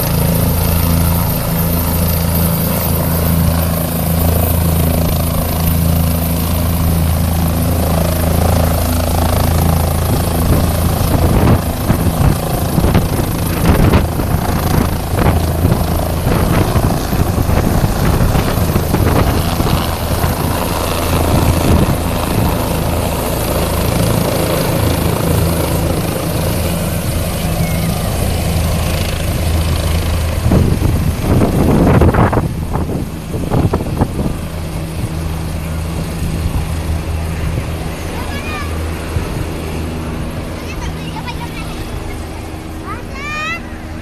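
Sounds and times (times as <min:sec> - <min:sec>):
wind thumps and gusts: 0:00.0 - 0:27.4, 0:28.0 - 0:37.9
helicopter rotor and engine drone: 0:00.0 - 0:44.0.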